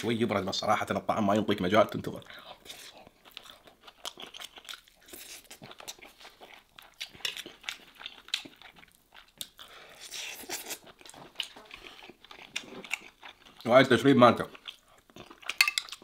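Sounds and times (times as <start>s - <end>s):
person chewing food: 2.3s - 13.7s, 14.4s - 16.0s.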